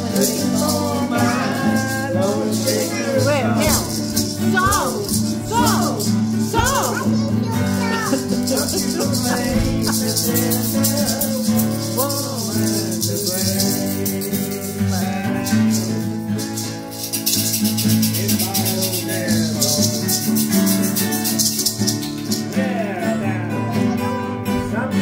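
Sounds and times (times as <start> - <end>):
maraca shaking: 0.0 - 24.3
acoustic guitars playing: 0.0 - 25.0.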